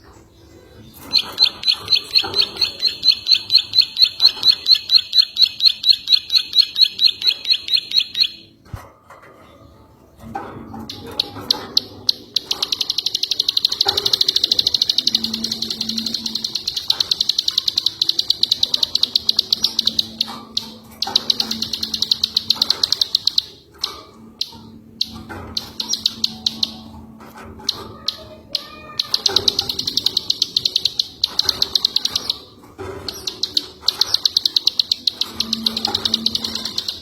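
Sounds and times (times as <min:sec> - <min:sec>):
songbird rattling trills: 0:00.8 - 0:08.6, 0:10.8 - 0:37.0.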